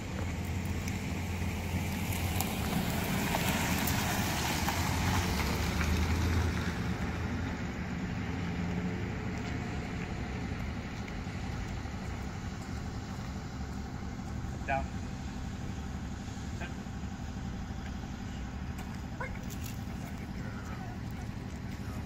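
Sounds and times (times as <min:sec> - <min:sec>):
traffic engine hum: 0:00.0 - 0:22.0.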